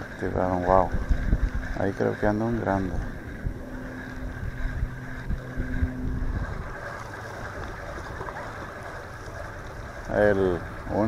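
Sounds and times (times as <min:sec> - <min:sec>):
low steady hum: 0:00.0 - 0:11.0
wind rumbling on microphone: 0:00.0 - 0:11.0.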